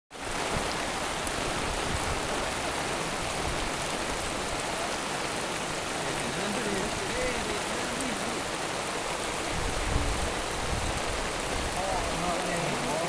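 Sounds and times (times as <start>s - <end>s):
heavy rain on water: 0.1s - 13.0s.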